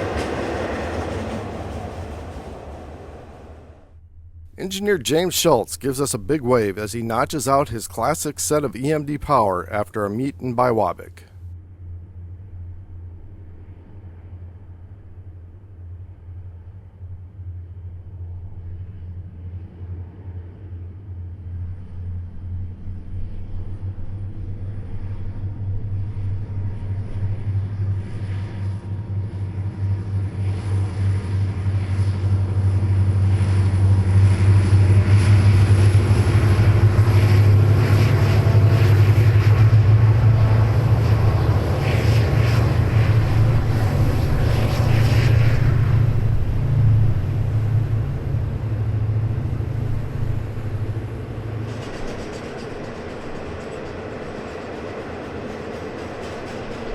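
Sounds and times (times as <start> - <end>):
diesel locomotive engines: 0.0 - 56.9.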